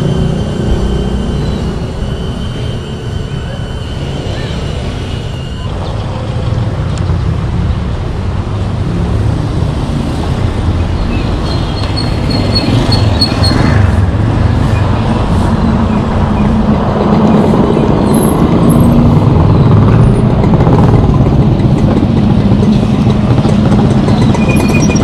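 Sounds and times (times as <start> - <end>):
street traffic: 0.0 - 25.0
wind on microphone: 3.7 - 25.0.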